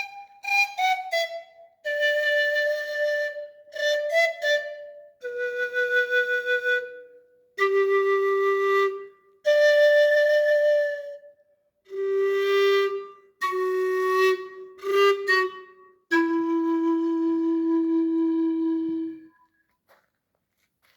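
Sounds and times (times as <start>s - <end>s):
bamboo panpipes playing slow melody: 0.0s - 19.5s.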